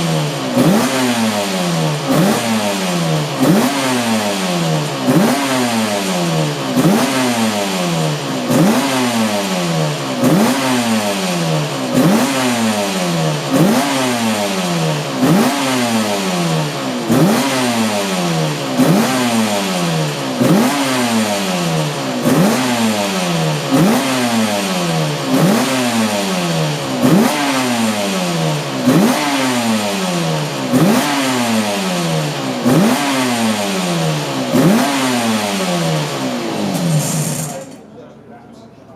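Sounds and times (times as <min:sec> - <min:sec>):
racing engine revving: 0:00.0 - 0:37.8.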